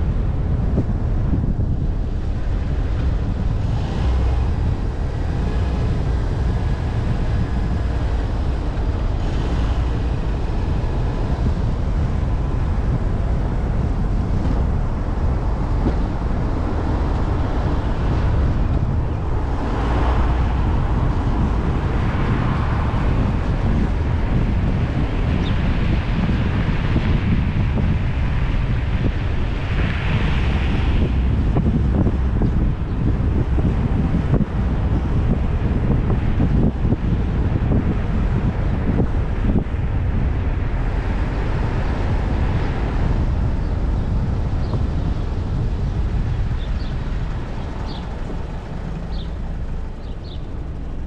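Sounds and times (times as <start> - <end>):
vehicle and road rumble: 0.0 - 51.0
wind buffeting microphone: 0.0 - 51.0.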